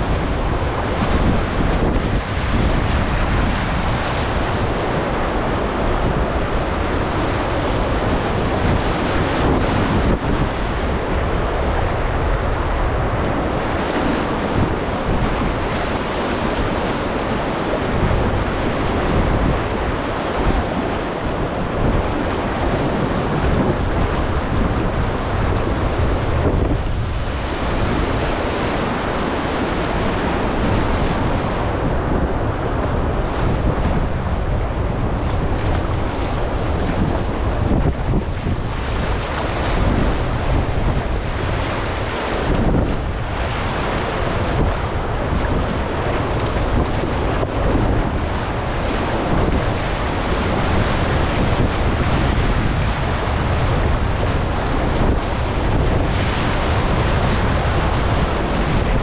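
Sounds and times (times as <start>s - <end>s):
whitewater rushing and splashing: 0.0s - 59.0s
wind buffeting microphone: 0.0s - 59.0s.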